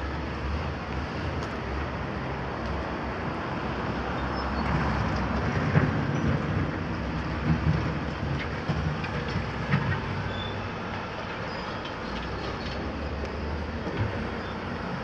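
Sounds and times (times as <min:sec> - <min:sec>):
excavator diesel engine running: 0:02.9 - 0:15.0.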